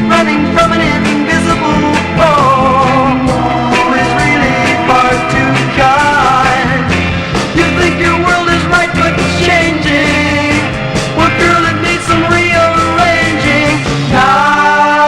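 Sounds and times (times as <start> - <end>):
pop song with full band: 0.0 - 15.0.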